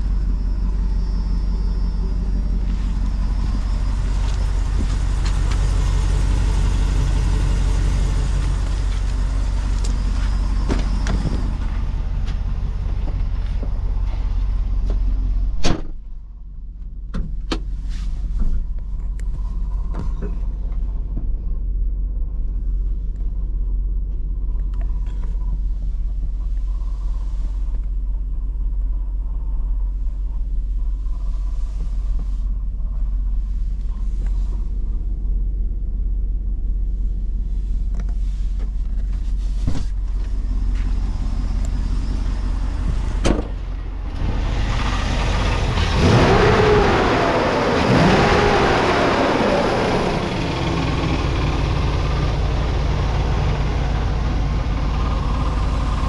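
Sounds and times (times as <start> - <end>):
pickup engine idling and revving: 0.0 - 15.6, 16.4 - 56.0.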